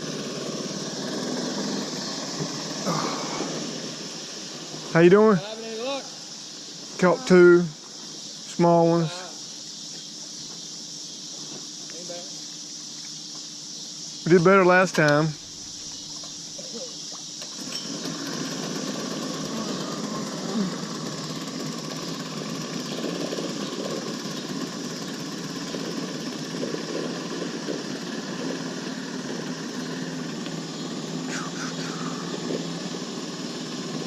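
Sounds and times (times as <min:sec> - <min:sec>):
small boat motor running: 0:00.0 - 0:07.9, 0:14.3 - 0:34.0.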